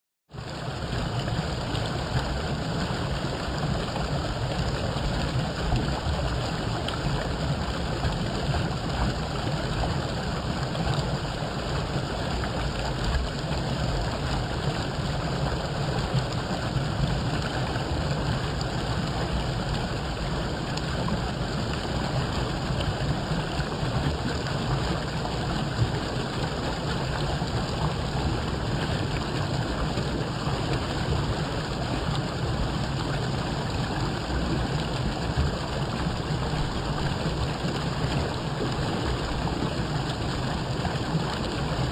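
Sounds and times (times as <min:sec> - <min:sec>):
rushing water with low rumble: 0:00.3 - 0:41.9.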